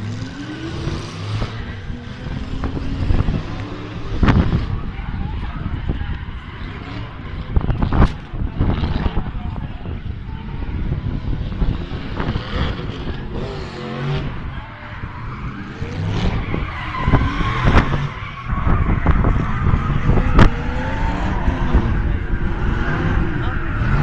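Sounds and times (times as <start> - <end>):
car engines revving hard: 0.0 - 24.0
tyres skidding and squealing: 0.0 - 24.0.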